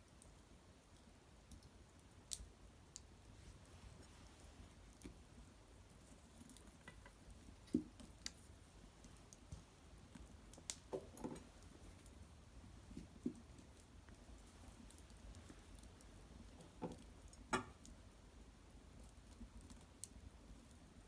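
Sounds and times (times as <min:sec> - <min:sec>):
wood fire crackling: 0:00.0 - 0:21.0
fire popping: 0:00.2 - 0:21.0.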